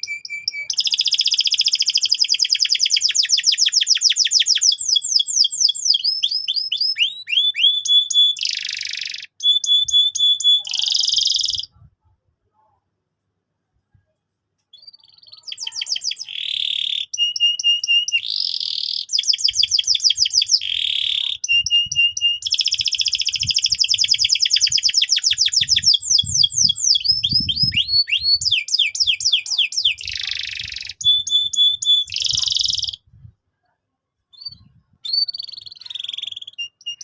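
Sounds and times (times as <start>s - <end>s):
canary singing trills: 0.0s - 11.9s, 14.8s - 33.1s, 34.4s - 37.0s.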